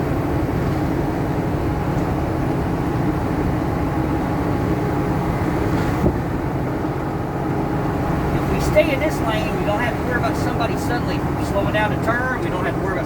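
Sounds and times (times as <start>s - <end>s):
diesel truck engine running: 0.0s - 13.0s
road noise: 0.0s - 13.0s.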